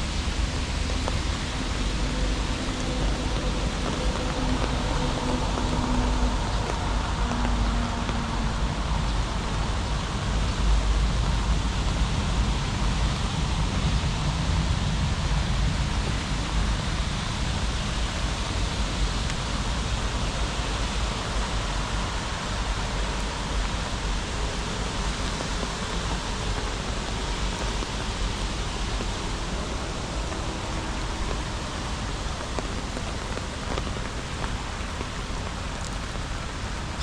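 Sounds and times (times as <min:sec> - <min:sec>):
low rumble: 0:00.0 - 0:37.0
rain falling: 0:00.0 - 0:37.0.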